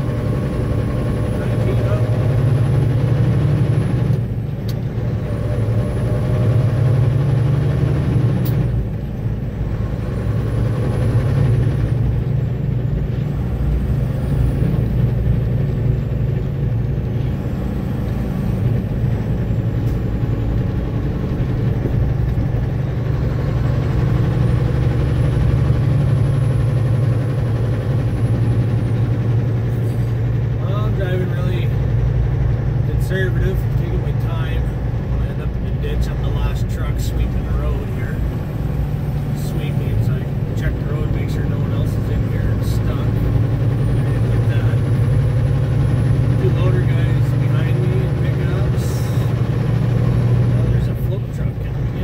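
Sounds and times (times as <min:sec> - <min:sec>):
diesel truck engine droning: 0:00.0 - 0:52.0.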